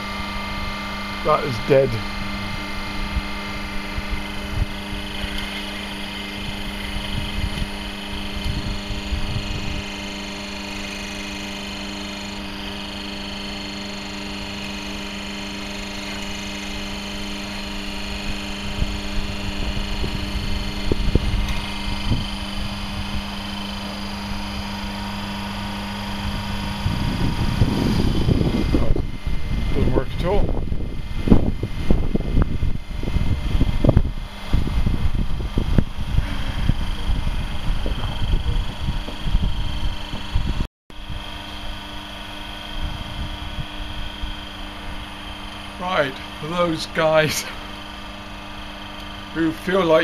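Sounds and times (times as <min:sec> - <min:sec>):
hydraulic pump humming: 0:00.0 - 0:50.0.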